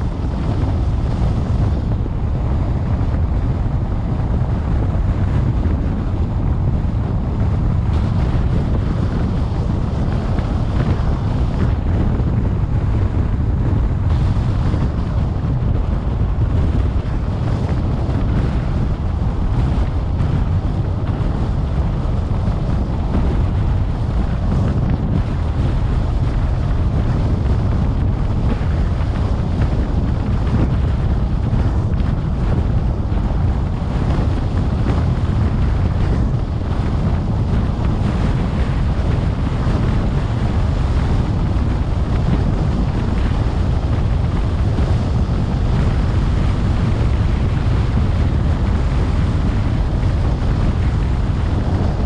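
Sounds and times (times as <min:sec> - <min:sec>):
car road and wind noise: 0:00.0 - 0:52.0.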